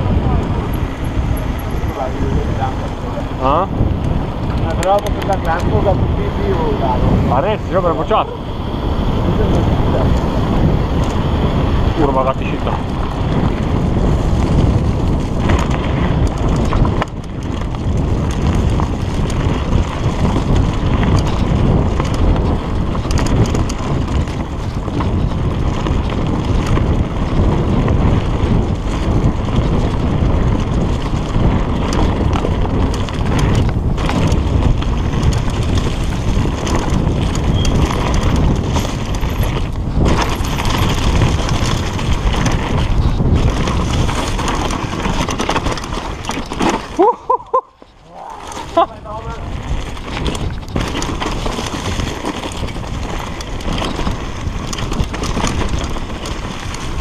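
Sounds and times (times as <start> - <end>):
bike rattling and knocking: 0.0 - 57.0
bike tyres rumbling on dirt: 0.0 - 57.0
wind buffeting microphone: 0.0 - 57.0.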